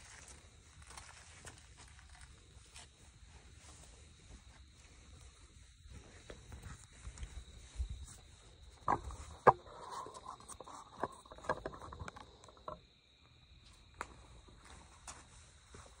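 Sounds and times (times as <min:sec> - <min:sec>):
night insects trilling: 0:00.0 - 0:16.0.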